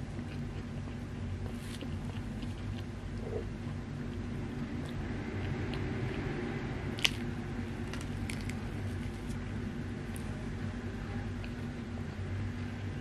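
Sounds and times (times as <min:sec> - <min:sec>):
soft moist chewing: 0:00.0 - 0:13.0
steady low hum: 0:00.0 - 0:13.0.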